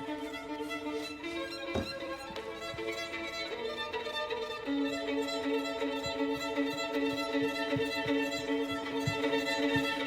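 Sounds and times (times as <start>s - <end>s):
violin film score music: 0.0s - 10.0s.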